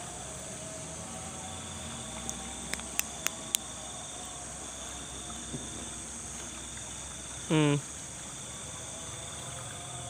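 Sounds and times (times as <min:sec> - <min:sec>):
crickets and insects chorus: 0:00.0 - 0:10.0.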